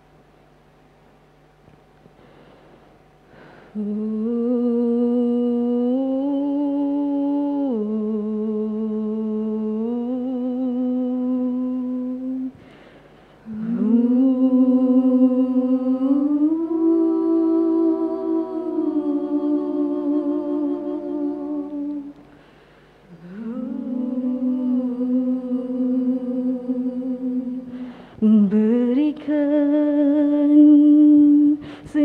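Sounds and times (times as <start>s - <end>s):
women humming a cappella: 3.4s - 32.0s.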